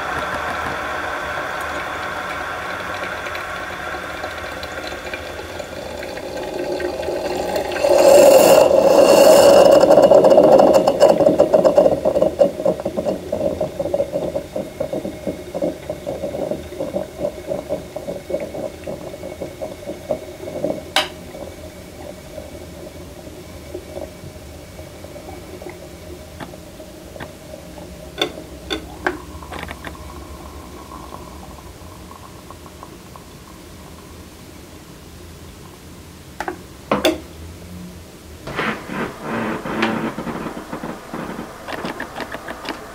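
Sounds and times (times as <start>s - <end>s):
moka pot gurgling and sputtering: 0.0s - 37.2s, 38.5s - 42.9s.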